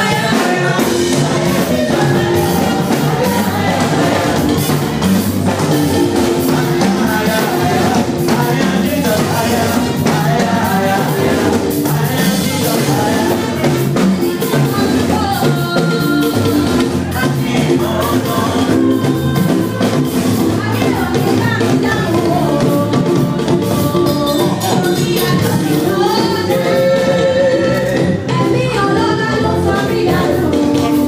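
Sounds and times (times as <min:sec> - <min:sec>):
children's choir singing: 0:00.0 - 0:31.0
music with drums: 0:00.0 - 0:31.0.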